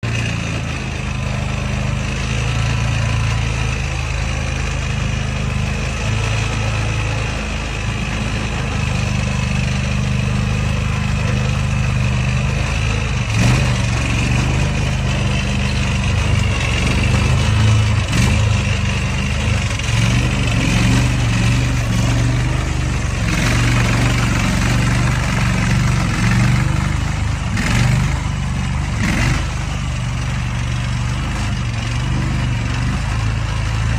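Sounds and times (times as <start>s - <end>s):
gasoline engine running: 0.0s - 33.9s
high-pitched engine surges: 0.0s - 33.9s.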